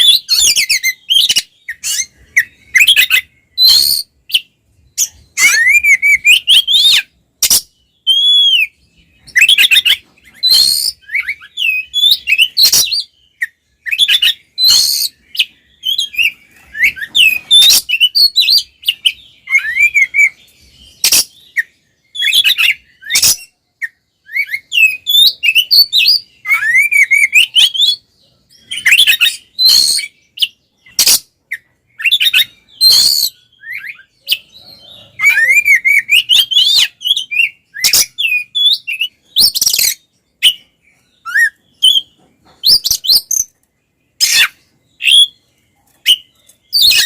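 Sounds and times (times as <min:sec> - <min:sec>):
bird singing whistled notes: 0:00.0 - 0:47.0
harsh scratchy bird calls: 0:00.0 - 0:47.0.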